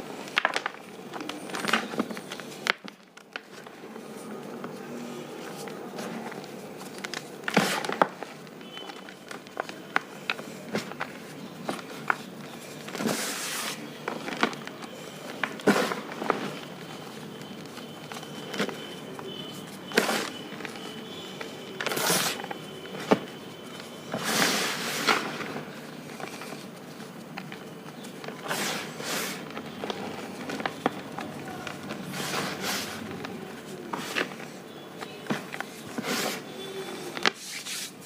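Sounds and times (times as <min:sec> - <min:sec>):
crisp crackles: 0:00.1 - 0:38.0
powder clumps crunching: 0:00.1 - 0:38.0.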